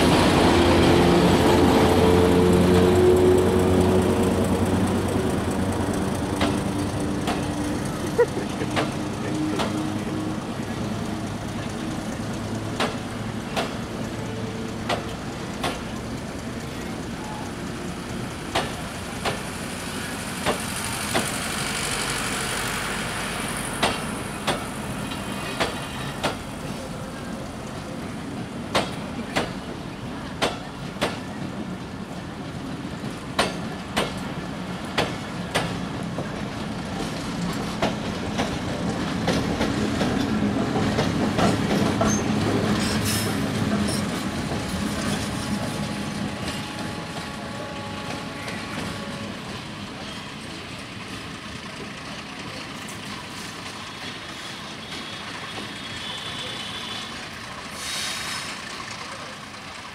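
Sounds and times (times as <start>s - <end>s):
wheels clacking over rail joints: 0.0s - 17.0s, 18.0s - 19.6s, 23.7s - 56.2s
diesel locomotive engine hum: 0.0s - 59.9s
train rumble: 0.0s - 59.9s.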